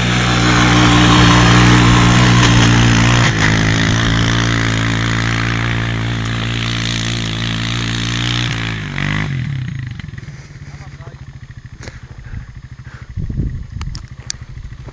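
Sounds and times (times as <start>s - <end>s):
off-road vehicle engine running: 0.0s - 14.9s.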